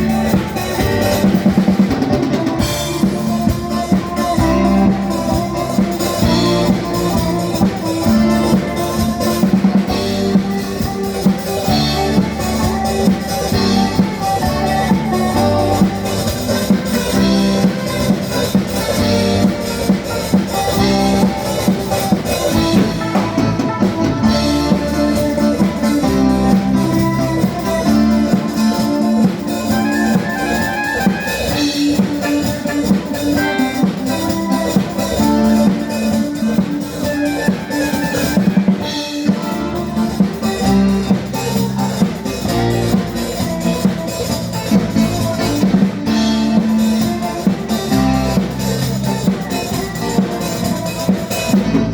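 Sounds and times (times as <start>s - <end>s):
bass and guitar notes: 0.0s - 51.9s
music over loudspeakers: 0.0s - 51.9s
steady drum beat: 0.0s - 51.9s.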